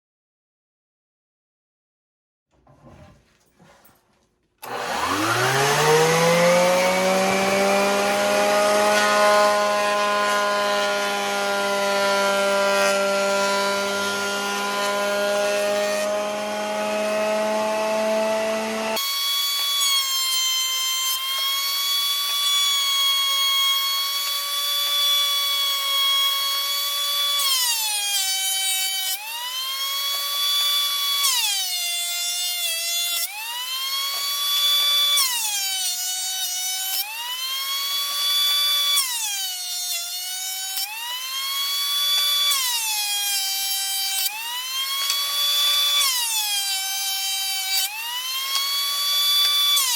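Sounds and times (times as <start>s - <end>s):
electric power tool whine: 4.6s - 49.9s.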